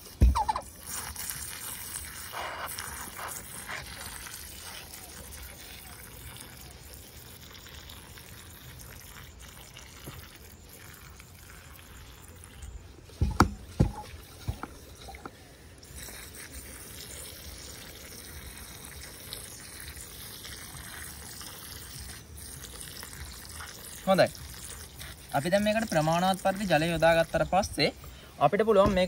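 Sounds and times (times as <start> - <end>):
water trickling into soil: 0.0 - 29.0.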